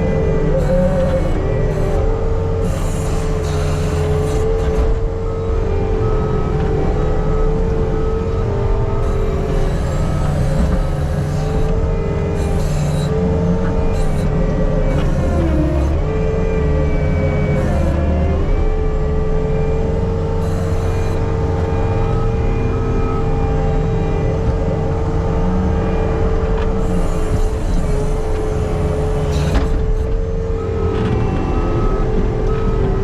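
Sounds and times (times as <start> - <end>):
diesel engine of earthmover: 0.0 - 33.0.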